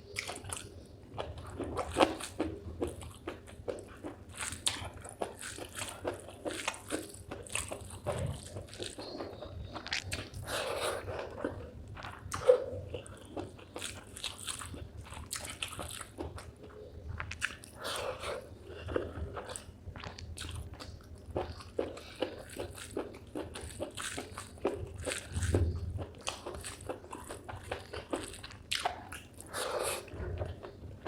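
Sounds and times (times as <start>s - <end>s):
person chewing and biting: 0.1s - 30.7s.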